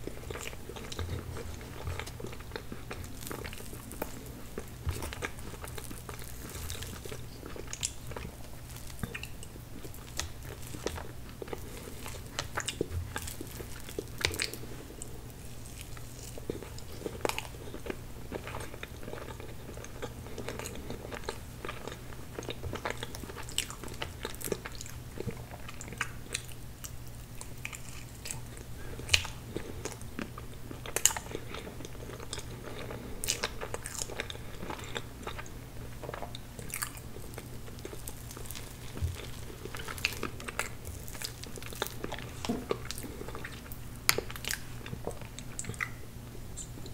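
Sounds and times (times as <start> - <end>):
chewing and mouth sounds: 0.0 - 46.9
faint low hum: 0.0 - 46.9.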